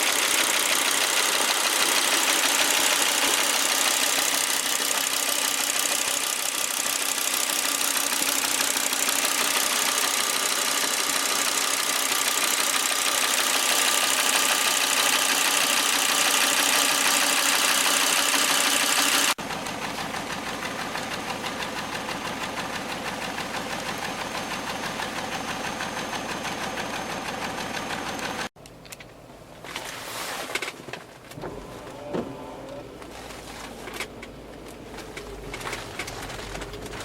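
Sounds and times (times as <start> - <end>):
car engine misfiring: 0.0 - 28.5, 31.3 - 37.0.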